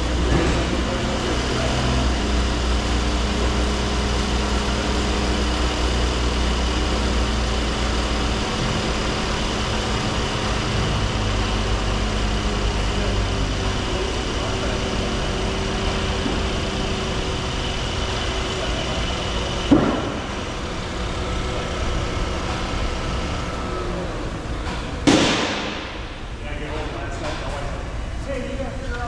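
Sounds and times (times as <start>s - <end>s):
car engine idling: 0.0s - 28.8s.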